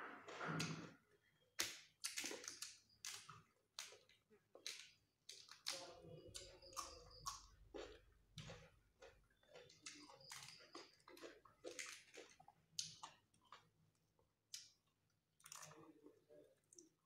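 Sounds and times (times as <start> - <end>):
crunchy chewing of cucumber: 1.8 - 16.2.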